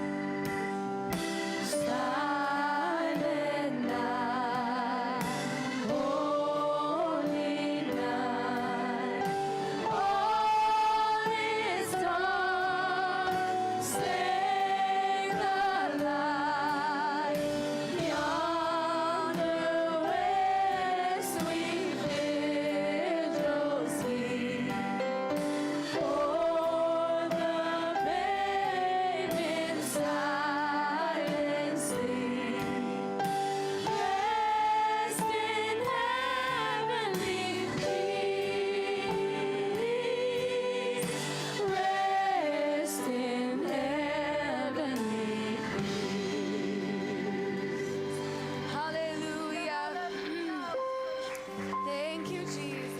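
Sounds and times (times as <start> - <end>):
voices singing with vibrato: 0.0 - 50.9
instrumental accompaniment: 0.0 - 52.9.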